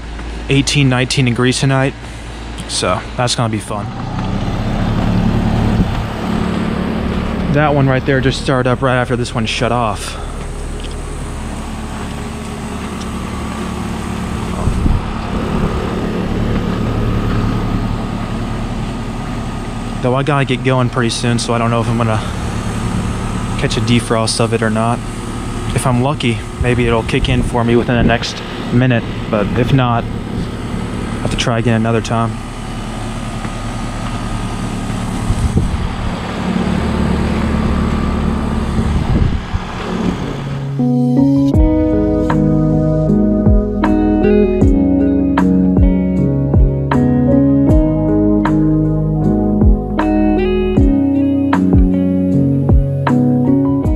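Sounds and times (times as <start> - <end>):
fan rushing: 0.0 - 53.9
heat pump hum: 0.0 - 53.9.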